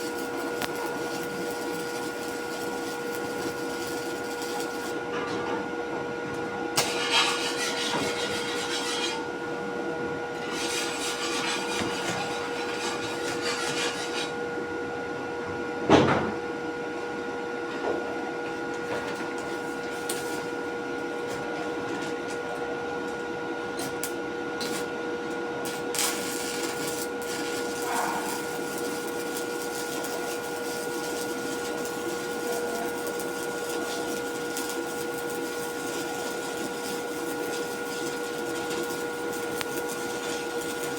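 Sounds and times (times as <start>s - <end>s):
steady mechanical hum: 0.0s - 40.9s.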